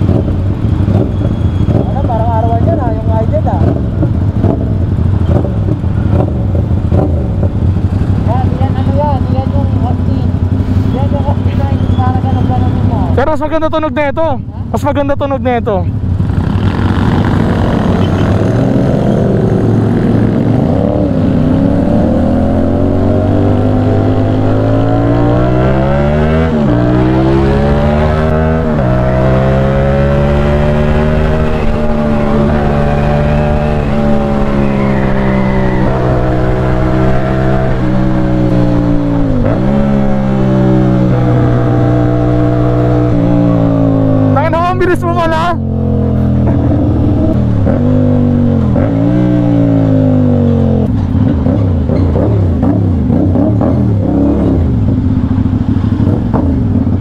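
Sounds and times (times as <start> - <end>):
motorcycle engine accelerating: 0.0 - 13.3, 15.9 - 57.0.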